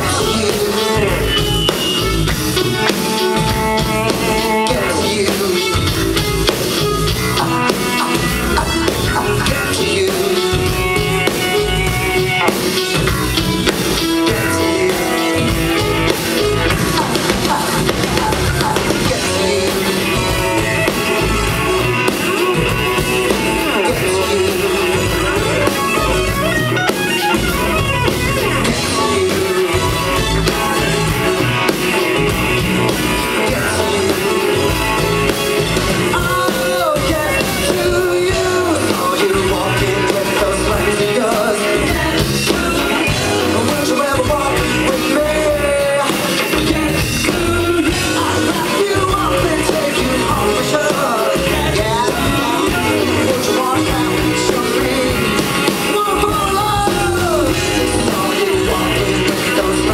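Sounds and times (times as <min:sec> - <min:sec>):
drum kit: 0:00.0 - 0:59.9
electric guitar: 0:00.0 - 0:59.9
man singing: 0:00.0 - 0:59.9.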